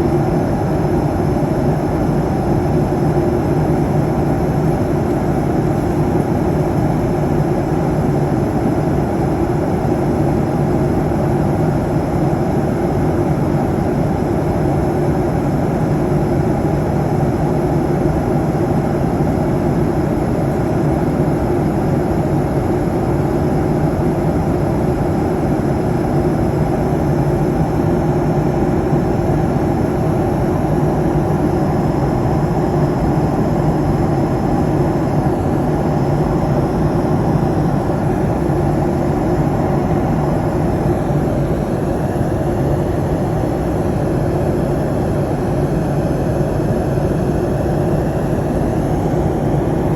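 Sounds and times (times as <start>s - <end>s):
airliner cabin drone: 0.0s - 49.9s.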